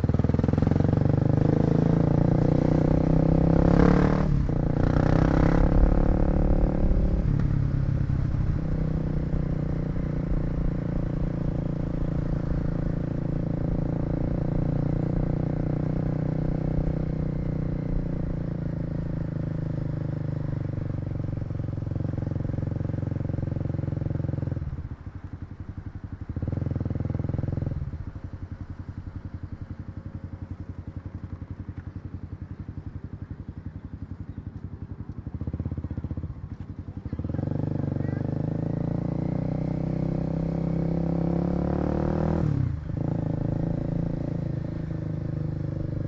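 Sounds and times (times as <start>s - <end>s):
motorcycle engine running and idling: 0.0s - 46.0s.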